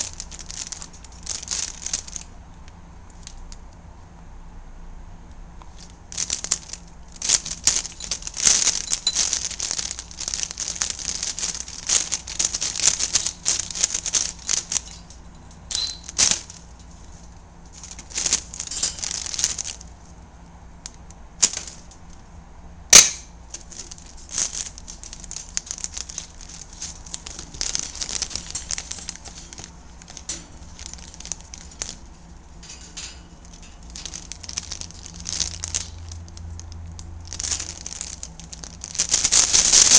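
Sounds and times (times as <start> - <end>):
plastic bag crinkling: 0.0 - 2.3, 5.7 - 20.2, 20.9 - 22.2, 23.4 - 39.9.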